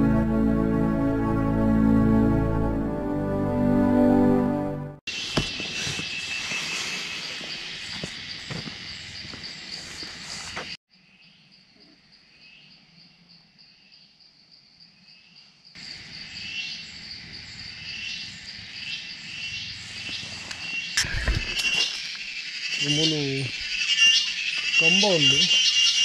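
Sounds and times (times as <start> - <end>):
insects trilling: 5.1 - 26.0
short insect chirps: 5.2 - 26.0.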